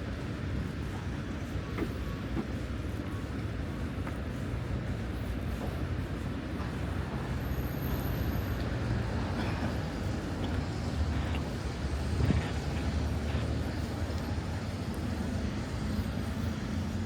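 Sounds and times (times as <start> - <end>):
city road traffic rumble: 0.0 - 17.0.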